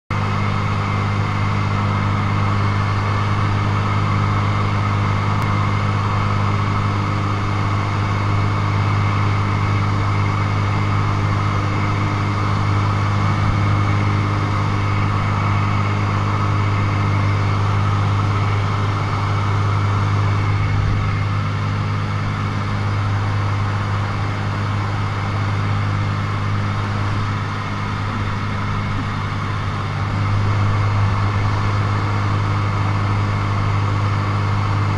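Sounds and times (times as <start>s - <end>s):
light aircraft engine droning: 0.1s - 34.9s.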